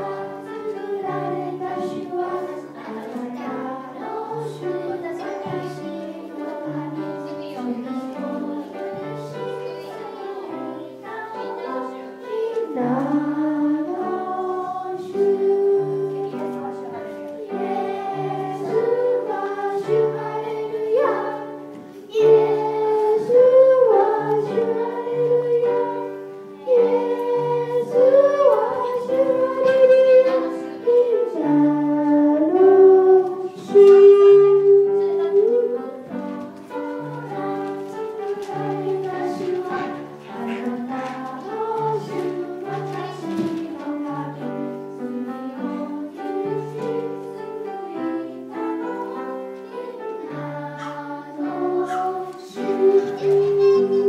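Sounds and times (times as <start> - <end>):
children singing in unison: 0.0 - 54.0
piano accompaniment: 0.0 - 54.0.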